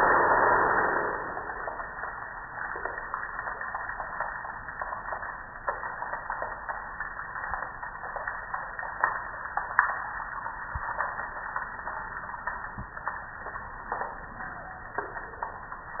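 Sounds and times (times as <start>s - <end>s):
water splattering on concrete: 0.0s - 16.0s.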